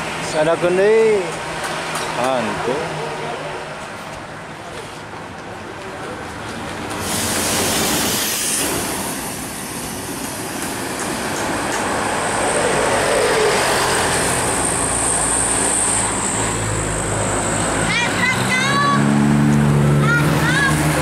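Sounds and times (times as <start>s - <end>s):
buses driving past: 0.0s - 21.0s.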